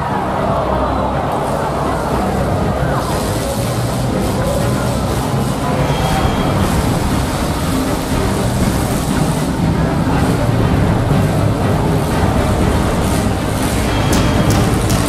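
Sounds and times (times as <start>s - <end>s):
car engines running: 0.0s - 15.0s.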